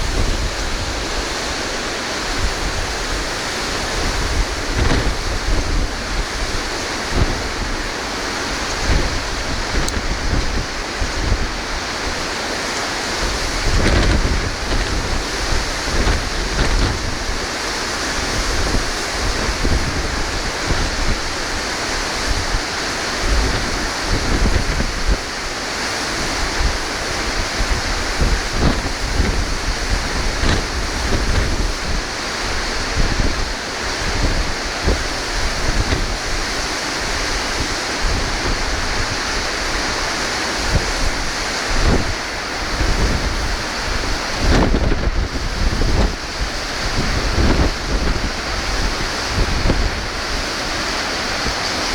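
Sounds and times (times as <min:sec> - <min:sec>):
surf breaking: 0:00.0 - 0:51.9
wind buffeting microphone: 0:00.0 - 0:51.9.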